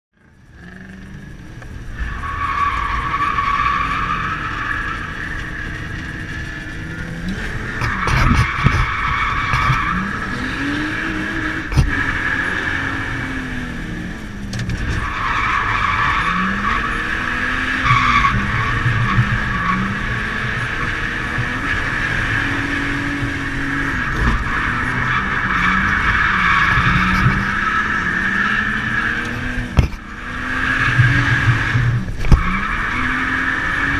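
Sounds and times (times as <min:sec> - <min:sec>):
car engine revving: 0:00.2 - 0:33.9.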